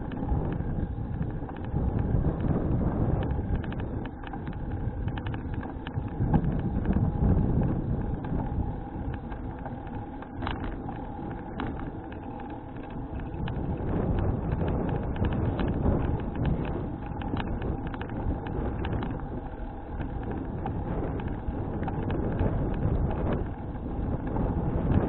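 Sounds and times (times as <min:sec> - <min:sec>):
bicycle clicks and rattles: 0:00.0 - 0:25.0
wind buffeting microphone: 0:00.0 - 0:25.0.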